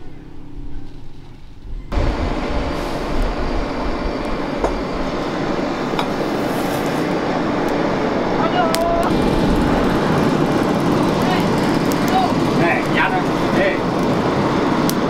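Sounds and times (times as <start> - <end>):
forge blower rushing air: 0.0 - 15.0.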